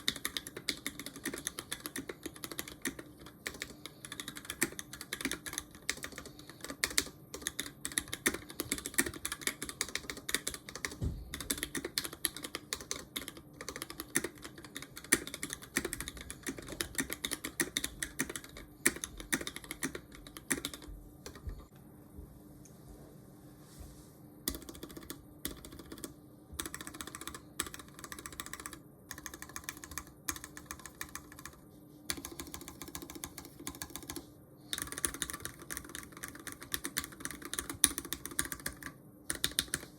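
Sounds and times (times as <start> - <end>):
mechanical keyboard typing: 0.0 - 21.4, 24.4 - 39.9.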